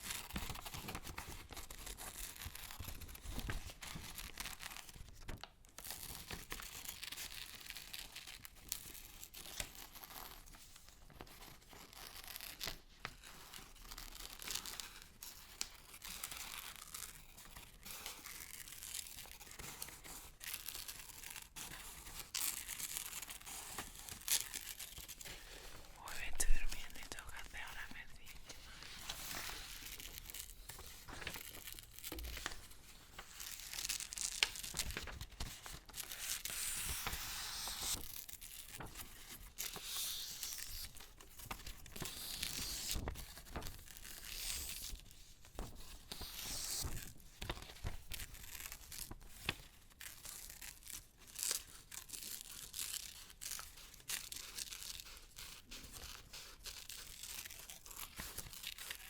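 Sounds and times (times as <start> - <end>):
paper crinkling and tearing: 0.0 - 59.0.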